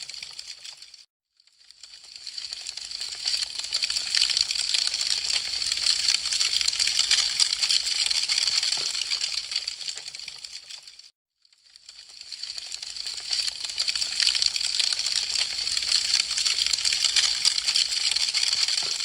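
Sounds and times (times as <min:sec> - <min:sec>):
wood fire crackling: 0:01.8 - 0:11.0, 0:12.0 - 0:19.0.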